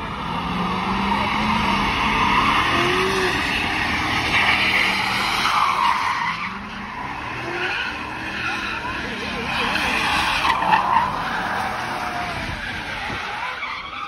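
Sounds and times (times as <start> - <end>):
car tires screeching: 0.0 - 14.0.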